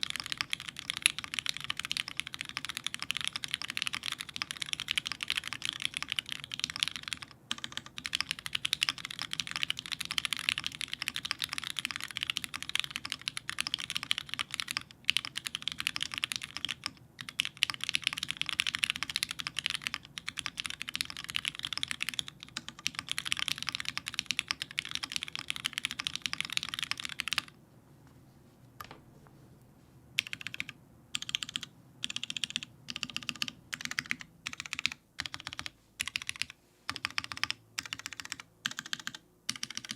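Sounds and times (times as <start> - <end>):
typing on mechanical keyboard: 0.0 - 27.5, 30.2 - 39.9.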